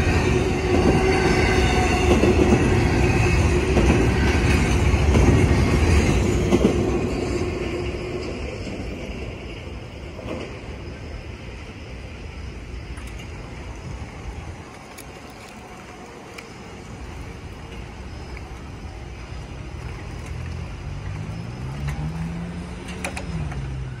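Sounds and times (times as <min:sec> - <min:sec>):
road traffic: 0:00.0 - 0:24.0
train low rumble: 0:00.0 - 0:24.0.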